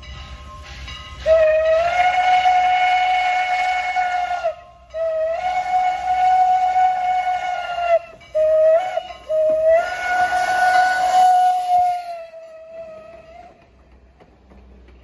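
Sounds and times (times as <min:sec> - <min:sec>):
steam whistle blowing: 0:01.2 - 0:13.6.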